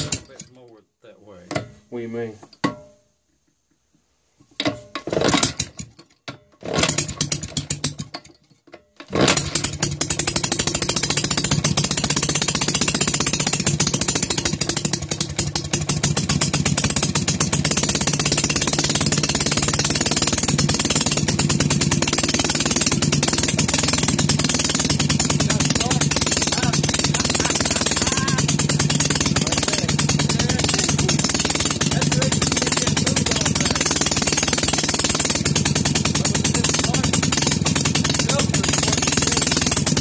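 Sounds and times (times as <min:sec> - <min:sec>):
two-stroke engine sputtering and running: 0:00.0 - 0:00.5, 0:04.6 - 0:08.4, 0:09.0 - 0:40.0.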